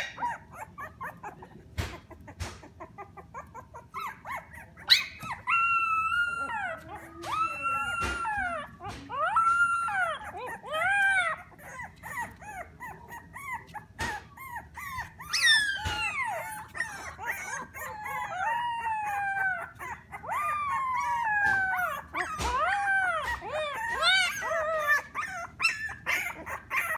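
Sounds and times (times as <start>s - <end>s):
puppy howling and whining: 0.0s - 26.9s
puppy yipping: 0.0s - 26.9s.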